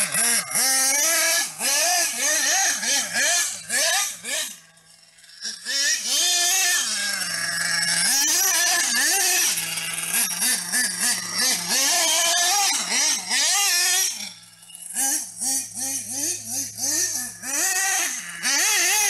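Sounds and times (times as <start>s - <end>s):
nitro engine revving: 0.0s - 19.0s.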